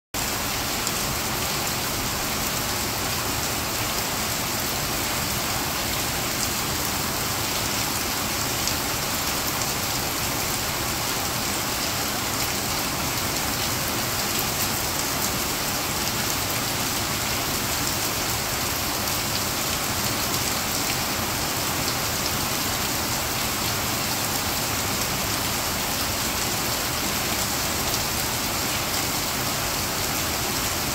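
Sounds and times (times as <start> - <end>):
rain falling on concrete: 0.2 - 30.9.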